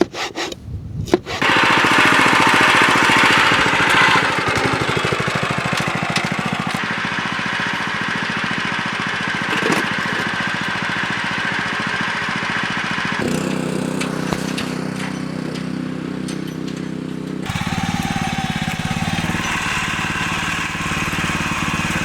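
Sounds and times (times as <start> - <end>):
small petrol engine running: 1.3 - 22.0.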